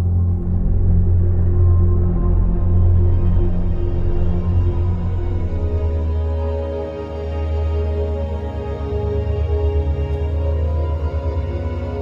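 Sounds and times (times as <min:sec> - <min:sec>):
dark background music drone: 0:00.0 - 0:12.0.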